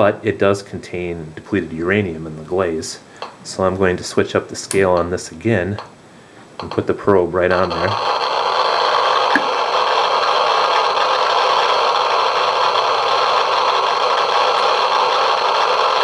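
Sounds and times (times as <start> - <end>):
geiger counter crackling: 0.0 - 16.0.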